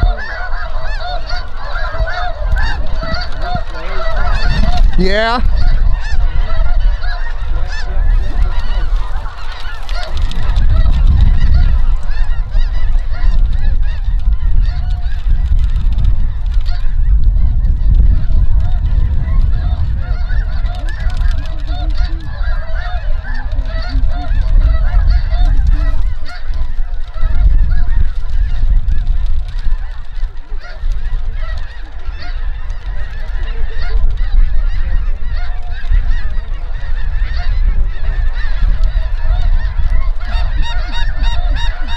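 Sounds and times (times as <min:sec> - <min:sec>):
geese honking: 0:00.0 - 0:41.9.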